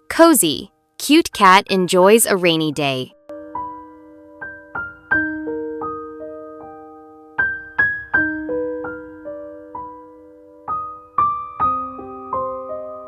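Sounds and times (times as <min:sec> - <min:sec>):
gentle piano music: 0:02.4 - 0:13.0.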